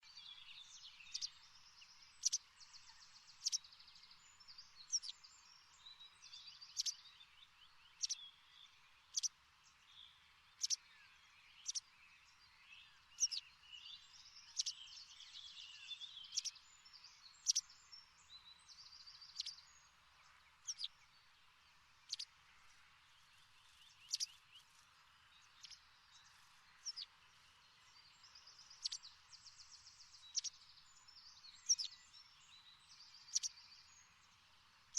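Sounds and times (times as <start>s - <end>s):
birds chirping and trilling: 0.0s - 9.3s, 9.9s - 34.4s
faint hiss: 0.1s - 34.9s.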